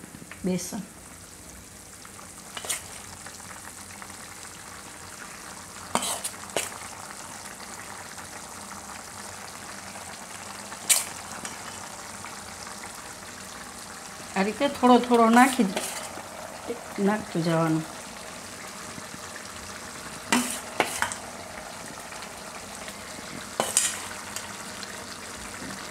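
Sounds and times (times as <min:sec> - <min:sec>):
gravy bubbling in a pan: 0:00.0 - 0:25.9.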